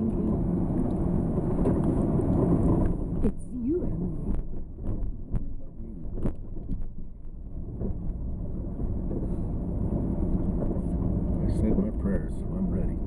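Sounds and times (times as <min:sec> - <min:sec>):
tyre and engine rumble: 0:00.0 - 0:13.0.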